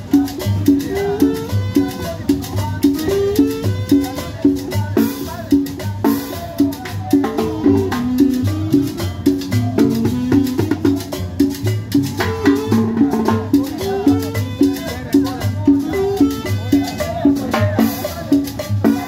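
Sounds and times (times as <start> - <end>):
conga drum: 0.0 - 19.0
double bass line: 0.0 - 19.0
hand percussion: 0.0 - 19.0.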